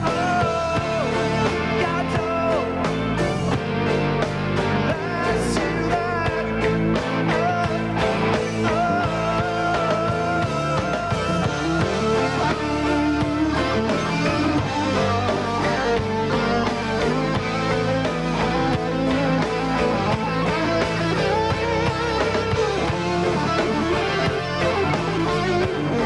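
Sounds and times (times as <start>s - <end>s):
man singing: 0.0s - 3.6s, 4.8s - 26.0s
bass guitar: 0.0s - 26.0s
drums: 0.0s - 26.0s
electric guitars: 0.0s - 26.0s.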